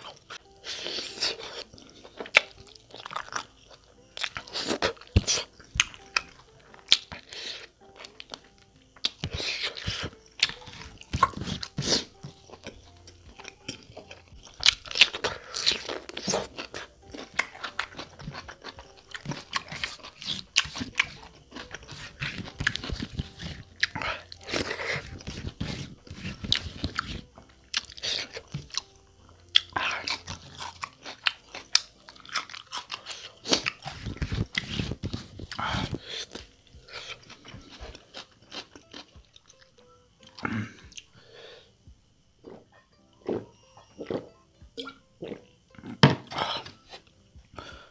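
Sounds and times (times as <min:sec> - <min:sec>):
close-up chewing: 0:00.0 - 0:41.2.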